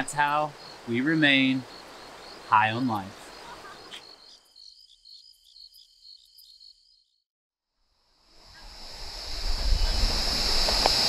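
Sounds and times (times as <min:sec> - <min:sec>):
insects chirping: 0:00.0 - 0:07.2, 0:07.9 - 0:11.0.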